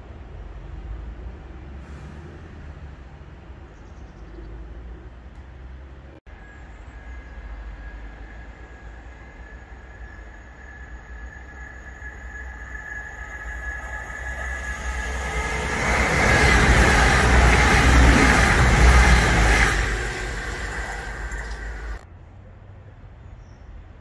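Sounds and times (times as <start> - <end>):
diesel train passing at speed: 0.0 - 3.8, 4.4 - 22.2.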